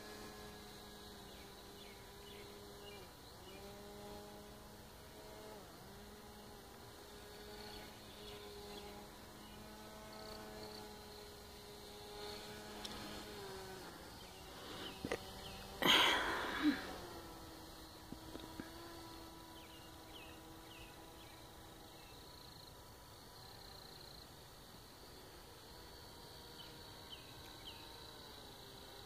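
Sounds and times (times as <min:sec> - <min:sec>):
distant propeller motor buzzing: 0:00.0 - 0:29.0.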